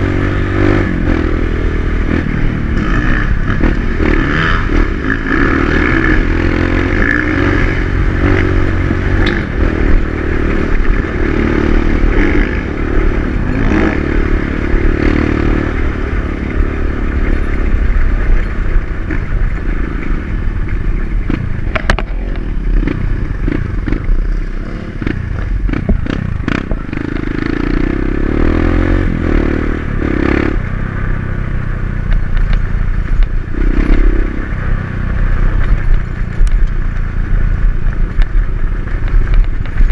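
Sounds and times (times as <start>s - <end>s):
dirt bike engine revving: 0.0s - 31.1s, 32.2s - 36.3s.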